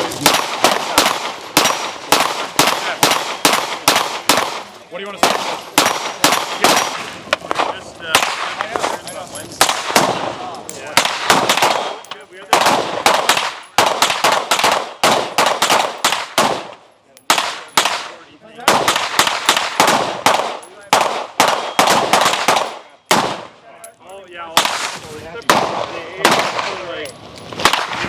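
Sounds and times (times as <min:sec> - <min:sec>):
gunshots cracking and echoing: 0:00.0 - 0:23.6, 0:24.5 - 0:28.0.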